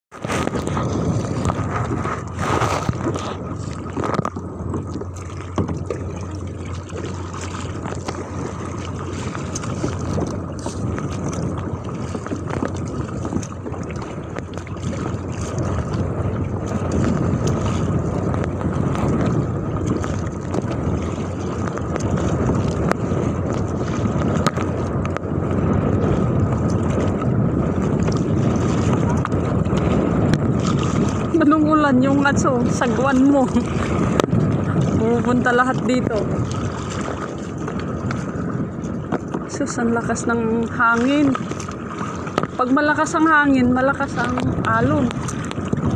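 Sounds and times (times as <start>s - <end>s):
paddle strokes splashing: 0.1s - 45.9s
waves slapping against kayak: 0.1s - 45.9s
wind buffeting microphone: 0.1s - 45.9s.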